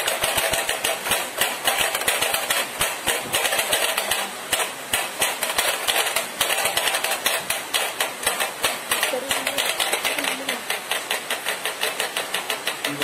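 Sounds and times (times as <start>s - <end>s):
hand drumming on a small box: 0.0s - 13.0s.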